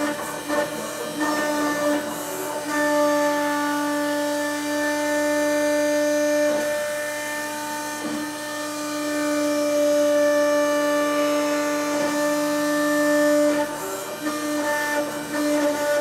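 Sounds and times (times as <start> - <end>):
engraving machine spindle whining: 0.0 - 16.0.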